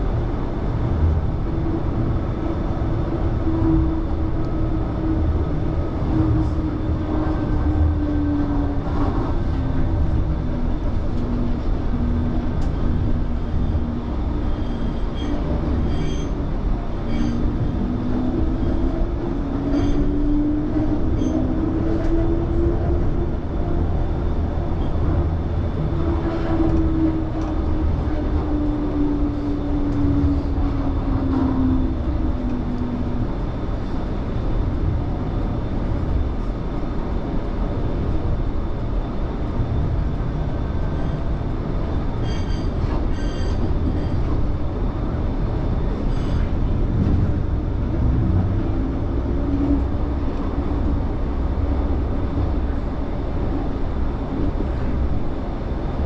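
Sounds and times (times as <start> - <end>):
tram motor whine: 0.0 - 56.0
tram wheels rumbling: 0.0 - 56.0.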